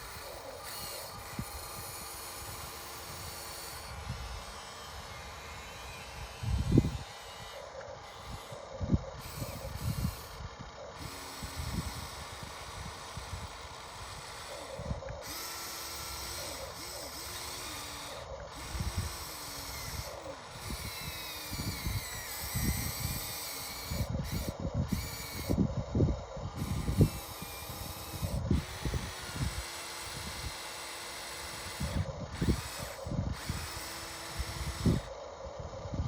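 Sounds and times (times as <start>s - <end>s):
electric motors whining: 0.0s - 36.0s.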